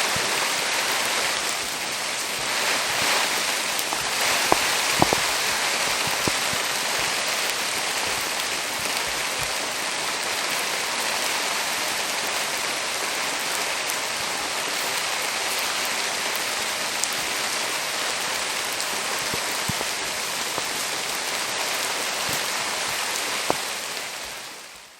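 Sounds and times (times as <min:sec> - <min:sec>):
campfire crackling: 0:00.0 - 0:24.9
steady rain falling: 0:00.0 - 0:24.9.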